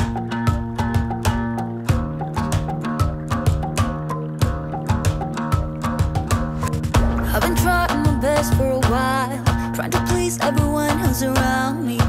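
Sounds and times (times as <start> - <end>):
drum beat: 0.0 - 11.7
held chords: 0.0 - 12.0.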